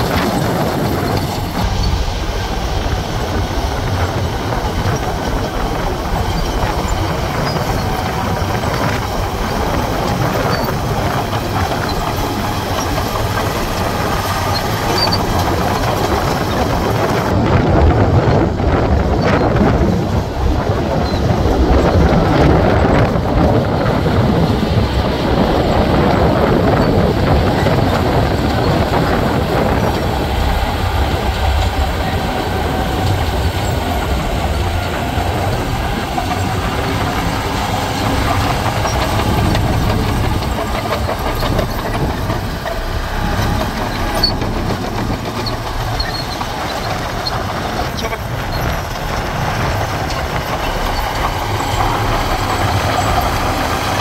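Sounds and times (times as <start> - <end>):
bulldozer diesel engine: 0.0 - 54.0
steel tracks clanking: 0.0 - 54.0.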